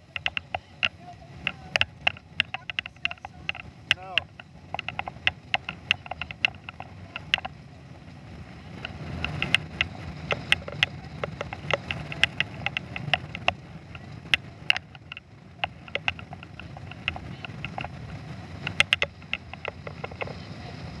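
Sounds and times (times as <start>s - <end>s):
sharp knocks: 0.0s - 7.5s, 8.8s - 20.4s
boat motor rumble: 0.0s - 21.0s.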